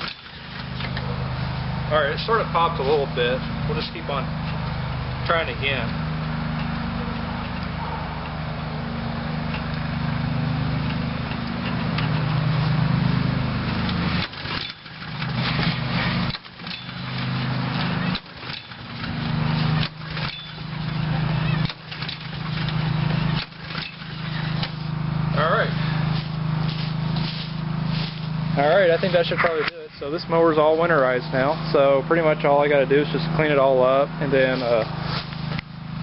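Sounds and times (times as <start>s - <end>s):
recoil pull-start cranking whirr: 0.0s - 30.7s
mower engine running: 0.0s - 36.0s.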